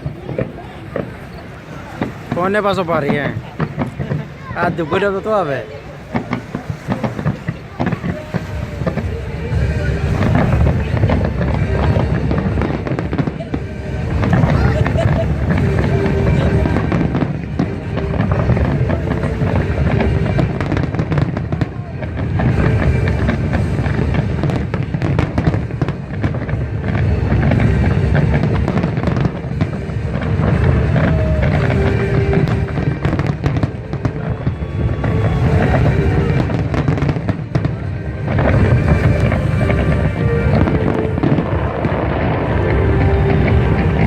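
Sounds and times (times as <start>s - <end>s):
fireworks booming and crackling: 0.0s - 44.0s
music playing: 4.7s - 44.0s.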